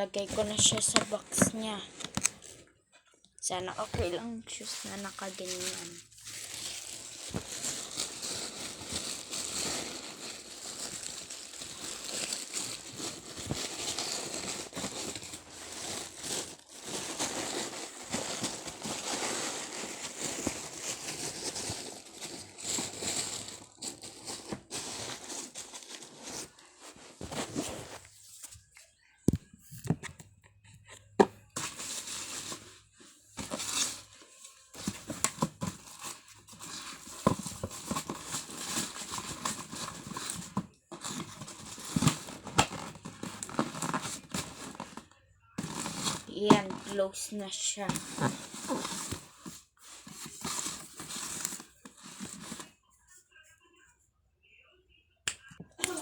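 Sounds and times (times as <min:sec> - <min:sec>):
packaging rustling and crinkling: 0:00.0 - 0:02.6, 0:03.5 - 0:28.8, 0:31.4 - 0:52.8.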